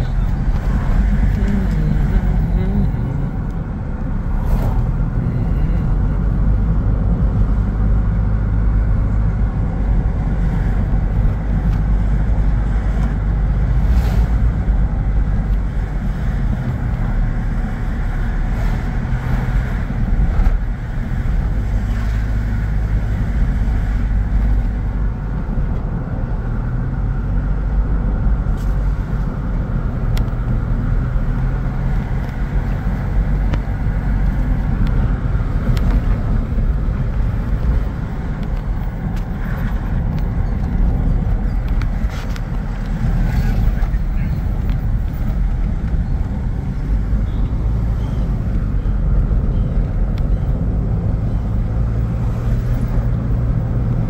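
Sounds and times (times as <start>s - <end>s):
car engine hum: 0.0s - 54.0s
road and tyre noise: 0.0s - 54.0s.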